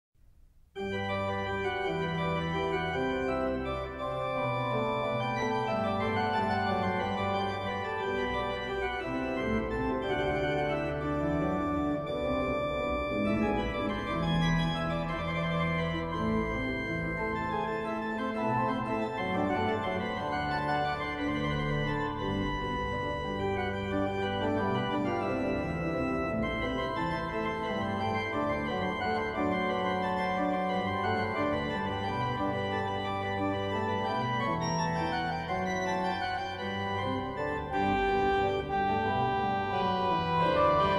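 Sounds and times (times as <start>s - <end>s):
organ sustained chords: 0.8s - 40.9s.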